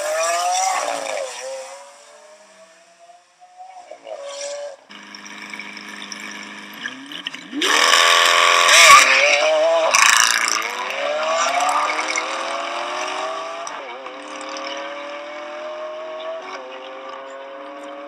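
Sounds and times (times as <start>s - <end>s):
car engine revving and accelerating: 0.0s - 18.0s.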